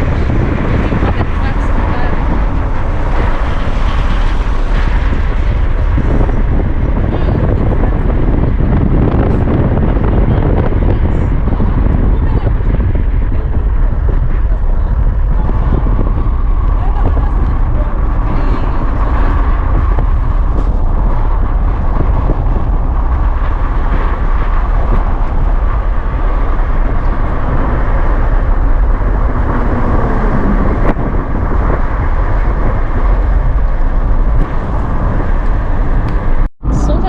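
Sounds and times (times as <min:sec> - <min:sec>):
car driving rumble: 0:00.0 - 0:37.0.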